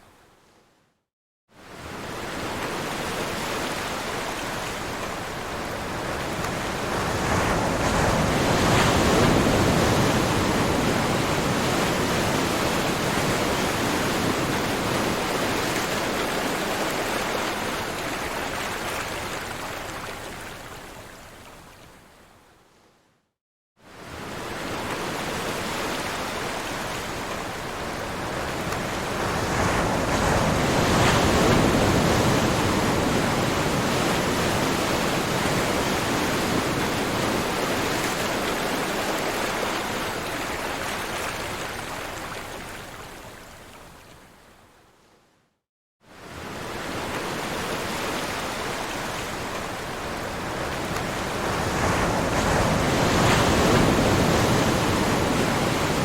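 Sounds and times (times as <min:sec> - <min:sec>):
ocean surf washing: 0:01.7 - 0:20.2, 0:24.0 - 0:43.2, 0:46.2 - 0:56.0.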